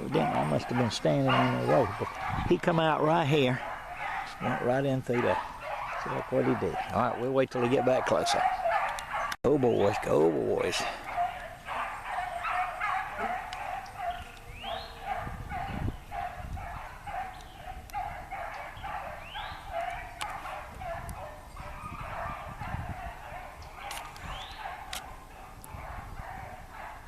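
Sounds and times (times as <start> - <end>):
hounds baying in chorus: 0.0 - 27.0.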